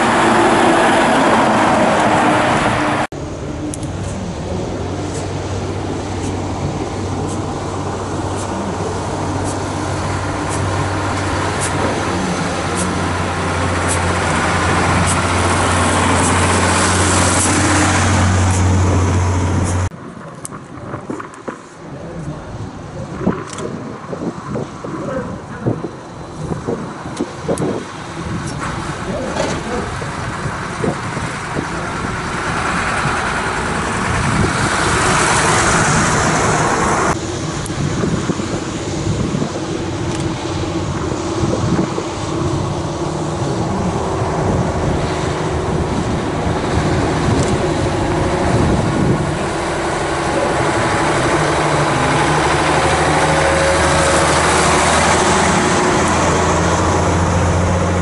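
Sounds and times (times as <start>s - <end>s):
truck engine running: 0.0s - 20.0s, 22.1s - 58.0s.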